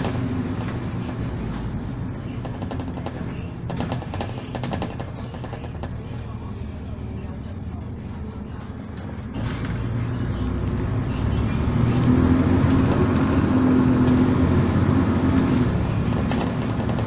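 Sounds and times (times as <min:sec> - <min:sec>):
bus diesel engine droning: 0:00.0 - 0:17.0.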